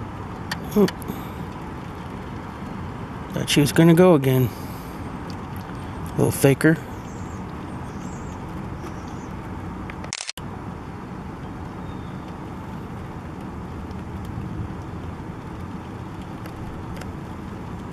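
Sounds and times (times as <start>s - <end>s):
distant traffic rumble: 0.0s - 17.9s.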